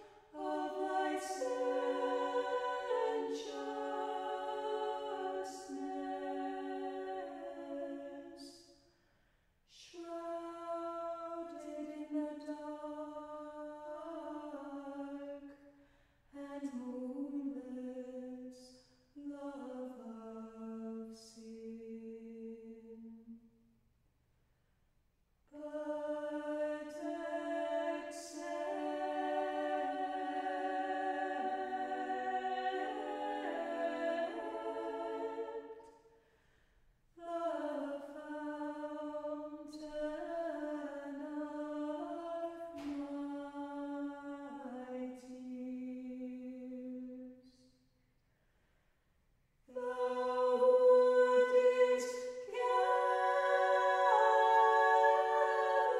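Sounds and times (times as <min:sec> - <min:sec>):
choir singing a hymn a cappella: 0:00.0 - 0:08.7, 0:09.9 - 0:15.4, 0:16.4 - 0:18.5, 0:19.4 - 0:23.1, 0:25.6 - 0:35.9, 0:37.2 - 0:47.1, 0:49.7 - 0:55.9.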